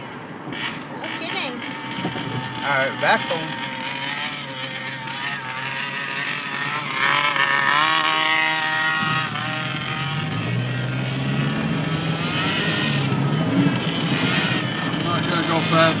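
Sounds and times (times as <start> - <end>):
two-stroke engine revving: 0.5 - 16.0.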